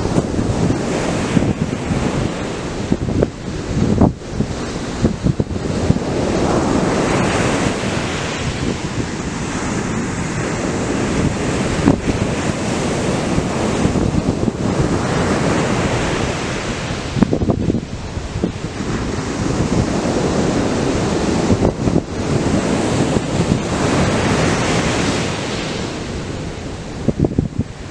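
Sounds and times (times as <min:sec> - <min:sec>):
surf breaking on beach: 0:00.0 - 0:27.9
wind buffeting microphone: 0:00.0 - 0:27.9.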